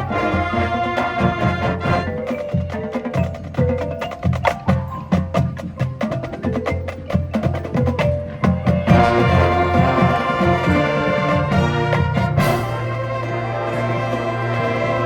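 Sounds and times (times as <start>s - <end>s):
sharp percussion strikes: 0.0s - 13.4s
marching band playing: 0.0s - 15.0s.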